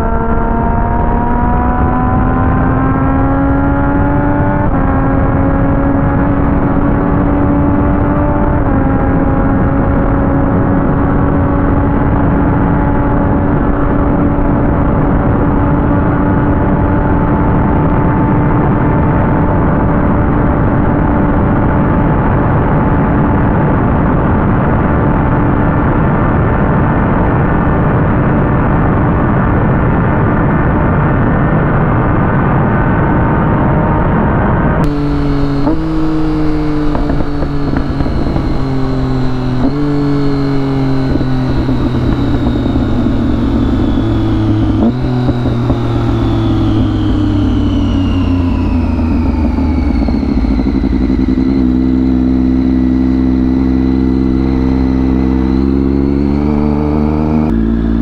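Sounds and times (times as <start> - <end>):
wind rush: 0.0 - 53.5
motorcycle engine accelerating: 0.0 - 58.0.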